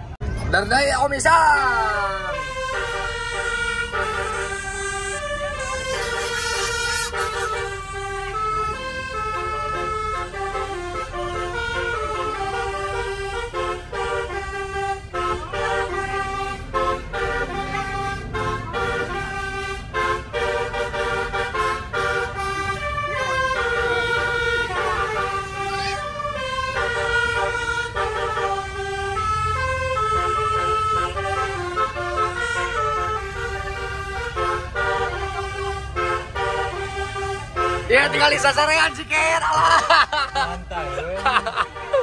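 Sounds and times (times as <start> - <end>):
bus engine rumble: 0.0 - 42.0
multi-tone air horn melody: 1.6 - 42.0.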